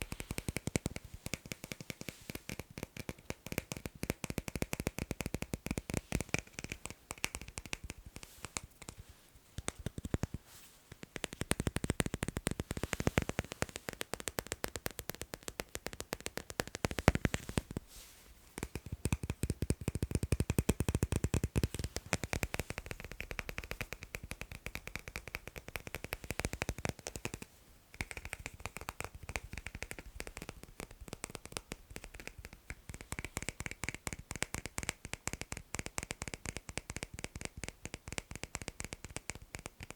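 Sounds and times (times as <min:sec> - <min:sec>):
fast tapping on magnets: 0:00.0 - 0:17.9, 0:18.5 - 0:39.9.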